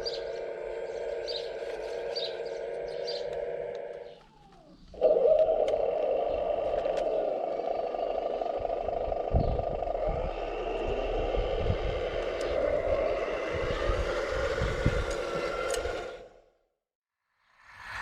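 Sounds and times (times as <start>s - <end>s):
hydraulic pump whine: 0.0s - 16.5s.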